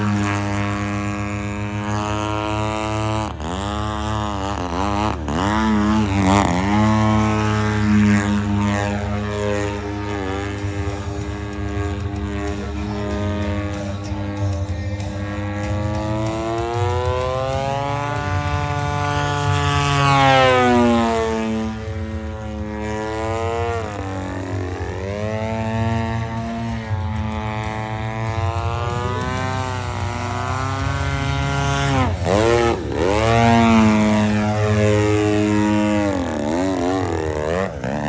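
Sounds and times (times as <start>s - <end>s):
model airplane motor and propeller: 0.0s - 38.0s.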